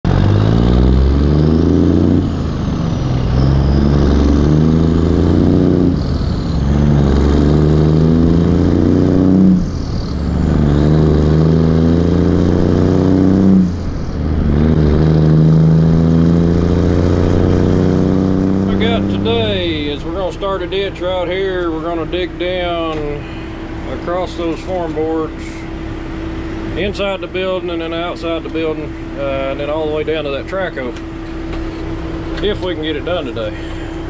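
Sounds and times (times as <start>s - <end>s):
truck diesel engine accelerating: 0.0s - 34.0s.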